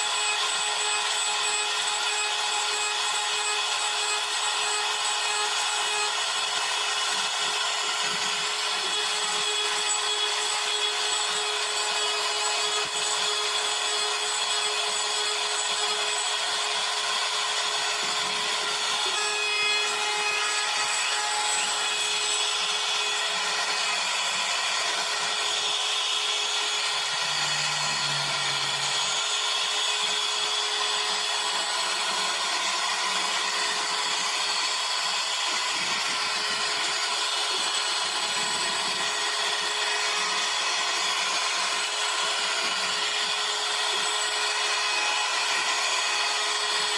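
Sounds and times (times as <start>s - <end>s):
router spindle whine: 0.0s - 46.9s.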